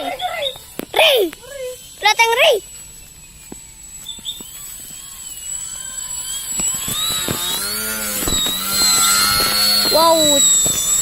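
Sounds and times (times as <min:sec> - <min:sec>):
model plane electric motor whine: 0:01.4 - 0:11.0.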